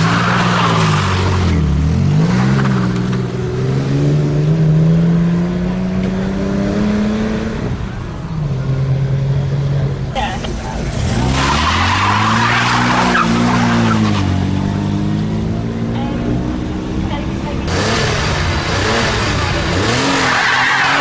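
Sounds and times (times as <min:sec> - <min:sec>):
sports car engine pulling hard: 0:00.0 - 0:21.0.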